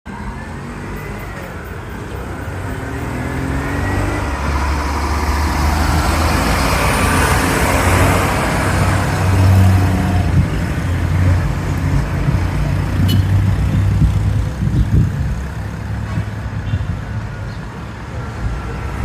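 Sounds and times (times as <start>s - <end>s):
tyre and road noise: 0.1s - 19.0s
vehicle engine hum: 0.1s - 19.0s.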